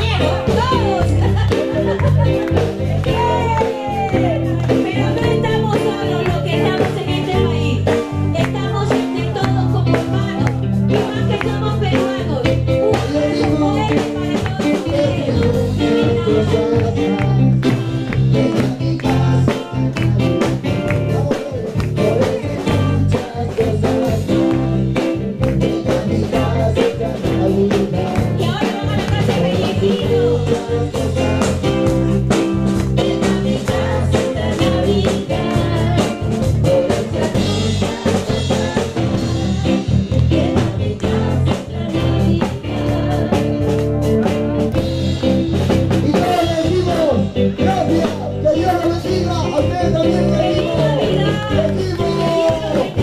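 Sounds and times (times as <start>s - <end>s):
upbeat music with singing: 0.0s - 53.0s.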